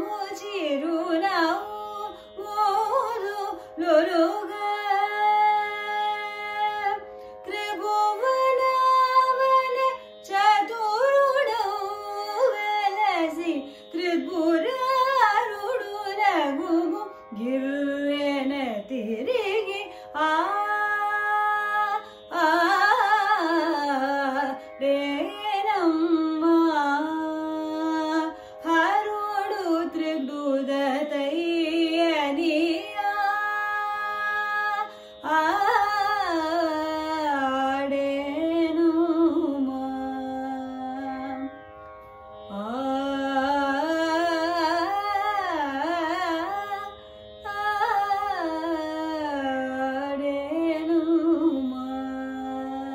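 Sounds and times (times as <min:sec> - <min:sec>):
woman singing classical vocals: 0:00.0 - 0:41.6, 0:42.4 - 0:52.9.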